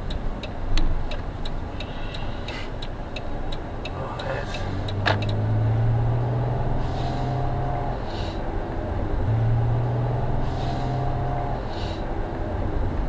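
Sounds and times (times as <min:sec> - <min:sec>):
low engine hum in vehicle cabin: 0:00.0 - 0:13.0.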